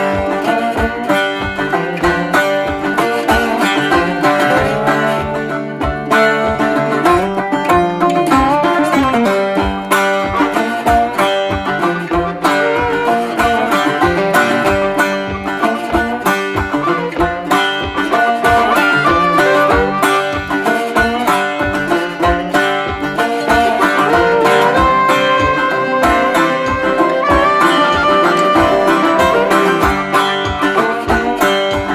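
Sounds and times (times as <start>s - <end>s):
plucked banjo: 0.0s - 31.9s
steady beat: 0.0s - 31.9s.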